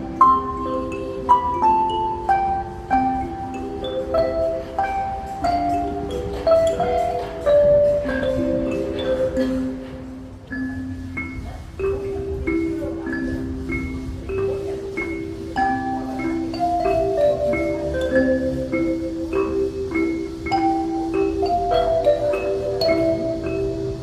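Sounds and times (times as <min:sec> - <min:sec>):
ocarinas playing in harmony: 0:00.0 - 0:24.0.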